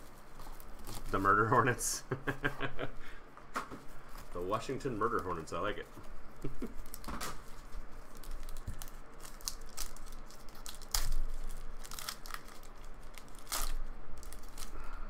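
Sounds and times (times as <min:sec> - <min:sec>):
foil pack crinkling and ripping: 0:00.0 - 0:01.8, 0:03.9 - 0:06.0, 0:06.6 - 0:15.0.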